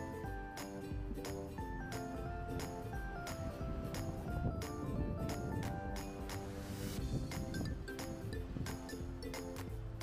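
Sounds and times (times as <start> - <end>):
background music with light beat: 0.0 - 10.0.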